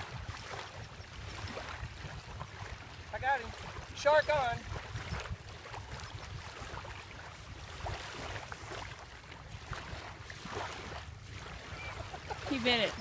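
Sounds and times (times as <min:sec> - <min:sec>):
small waves lapping at shore: 0:00.0 - 0:13.0
wind rumbling on microphone: 0:00.0 - 0:13.0.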